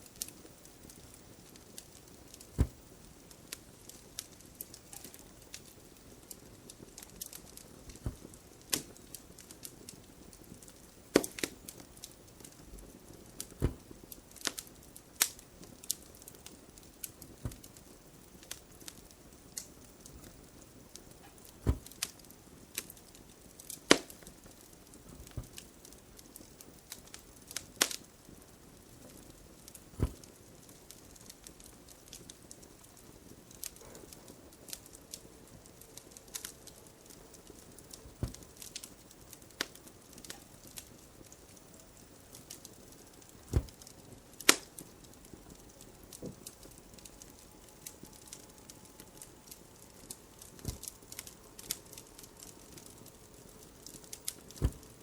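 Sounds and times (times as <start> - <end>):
faint steady hiss: 0.0 - 55.0
wood fire crackling and popping: 0.0 - 55.0.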